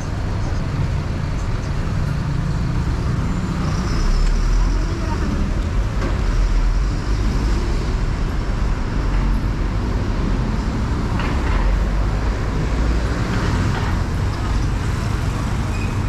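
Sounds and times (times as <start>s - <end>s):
cars and buses passing: 0.0s - 16.0s.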